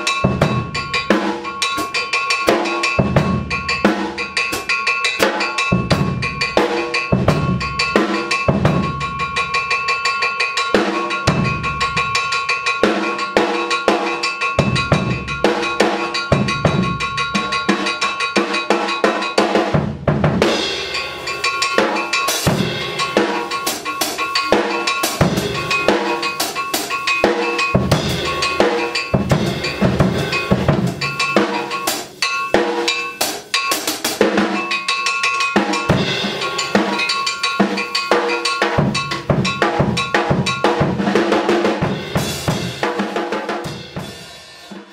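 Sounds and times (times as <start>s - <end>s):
drum kit played hard: 0.0s - 44.9s.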